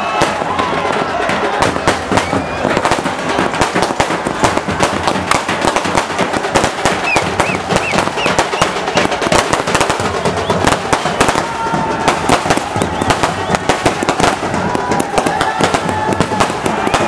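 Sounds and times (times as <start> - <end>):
firecrackers crackling: 0.0 - 17.0.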